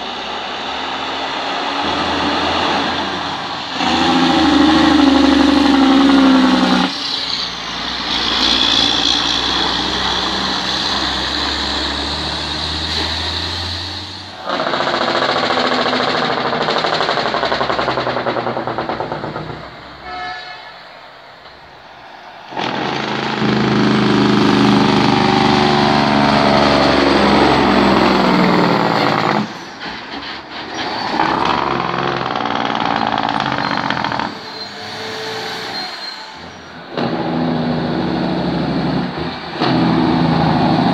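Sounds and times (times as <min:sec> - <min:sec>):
heavy diesel truck engines: 0:00.0 - 0:40.9.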